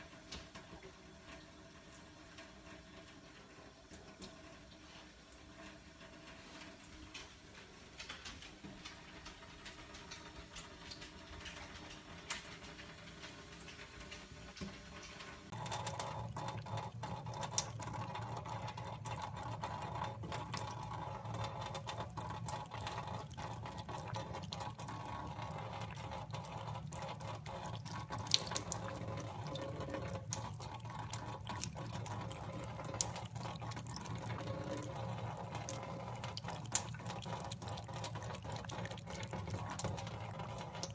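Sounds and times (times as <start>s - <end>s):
water running from a tap: 0.0s - 40.9s.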